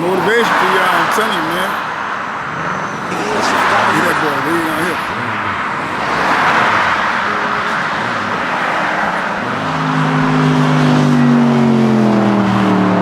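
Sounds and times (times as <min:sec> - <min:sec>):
loud car exhaust drone: 0:00.0 - 0:13.0.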